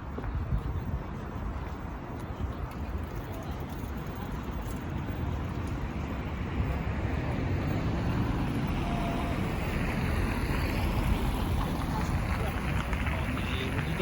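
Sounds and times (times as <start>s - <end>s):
city rumble: 0.0s - 14.0s.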